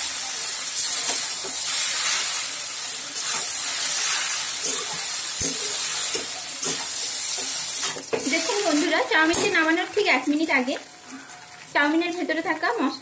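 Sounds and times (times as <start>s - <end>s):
noodles sizzling in a wok: 0.0s - 13.0s.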